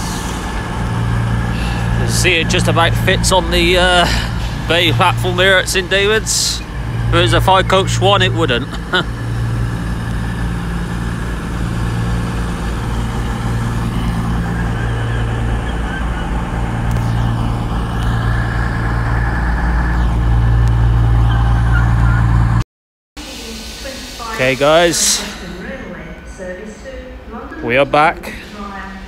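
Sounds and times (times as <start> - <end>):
diesel train engines idling: 0.0 - 22.6, 23.2 - 29.0.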